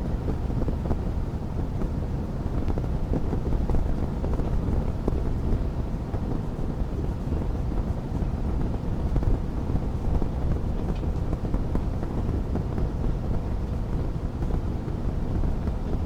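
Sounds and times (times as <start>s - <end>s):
fire rumbling in a fireplace: 0.0s - 16.0s.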